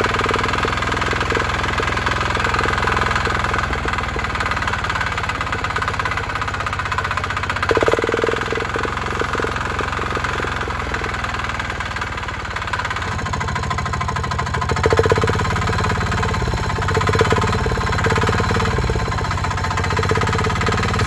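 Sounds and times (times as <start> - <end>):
diesel engine running: 0.0 - 21.0
exhaust pulses into drink can: 0.0 - 21.0.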